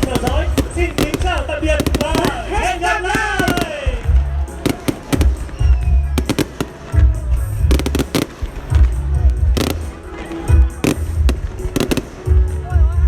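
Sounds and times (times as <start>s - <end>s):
fireworks bangs and crackles: 0.0s - 13.0s
loud music with bass beat: 0.0s - 13.0s.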